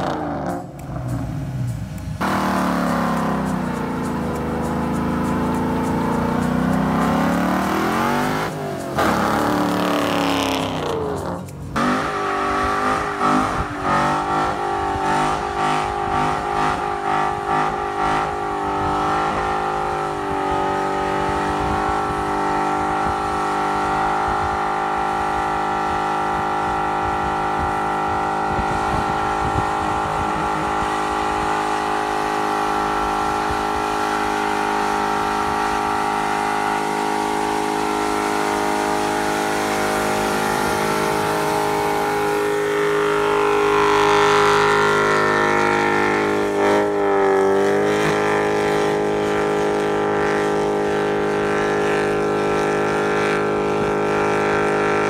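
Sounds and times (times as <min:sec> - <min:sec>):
car engine revving: 0:00.0 - 0:55.0
tires spinning: 0:00.0 - 0:55.0.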